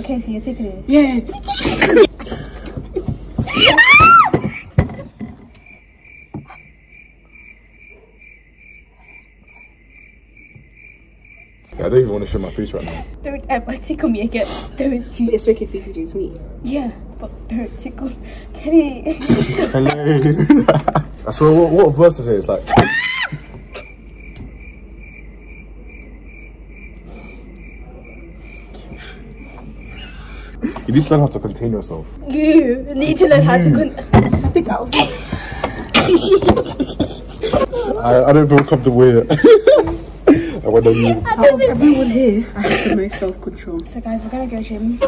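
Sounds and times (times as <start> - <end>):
cricket chirping: 0.0 - 45.0.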